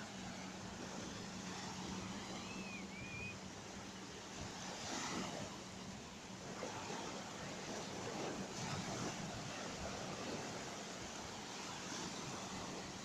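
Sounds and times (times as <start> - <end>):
steady low hum: 0.0 - 13.0
waves washing onto sandy beach: 0.0 - 13.0.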